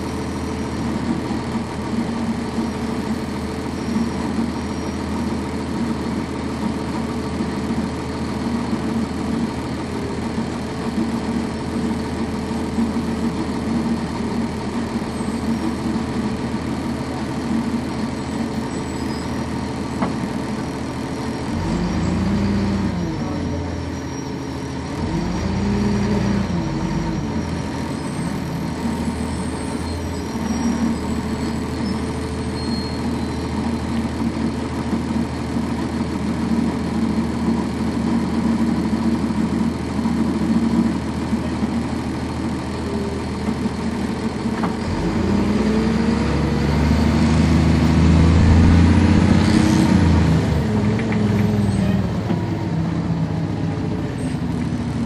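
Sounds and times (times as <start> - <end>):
bus diesel engine: 0.0 - 55.0.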